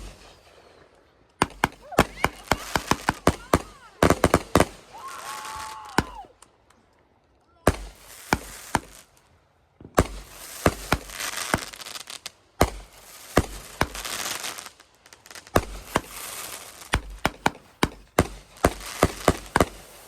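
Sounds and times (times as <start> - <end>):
fireworks banging: 0.0 - 0.6, 1.4 - 6.3, 7.7 - 9.1, 9.8 - 20.0
fireworks crackling hiss: 0.0 - 6.3, 7.7 - 20.0.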